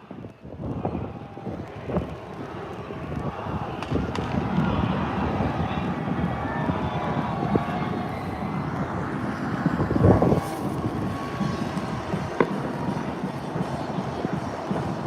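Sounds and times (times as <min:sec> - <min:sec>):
wind rumbling on microphone: 0:00.0 - 0:15.0
distant fireworks: 0:00.1 - 0:15.0.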